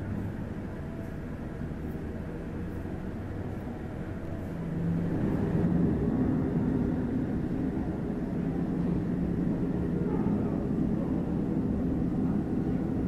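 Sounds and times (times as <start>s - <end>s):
airliner low rumble: 0.0s - 13.0s
low hum: 0.0s - 13.0s.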